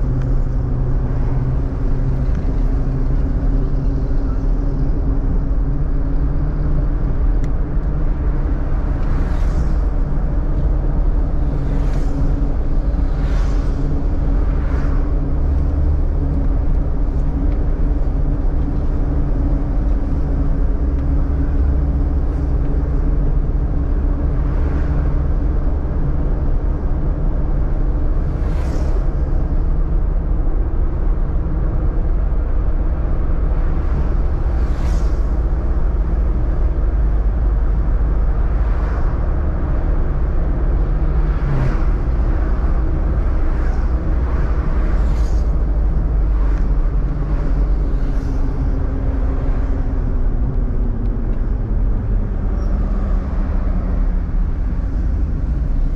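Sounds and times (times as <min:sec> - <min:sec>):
road and engine rumble: 0:00.0 - 0:55.9
vehicles whooshing past: 0:08.0 - 0:55.9.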